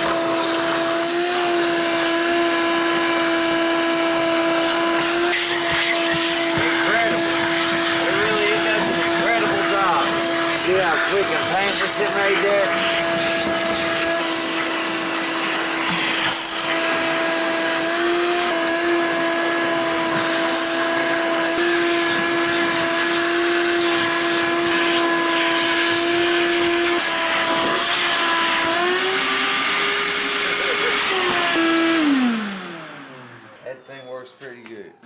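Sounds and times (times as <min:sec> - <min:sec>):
shop vacuum motor whine: 0:00.0 - 0:33.8.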